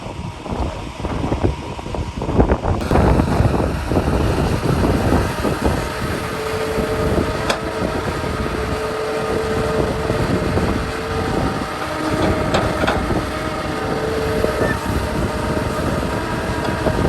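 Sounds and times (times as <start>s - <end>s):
heavy diesel machinery engine drone: 0.0s - 17.0s
high whine: 2.6s - 17.0s.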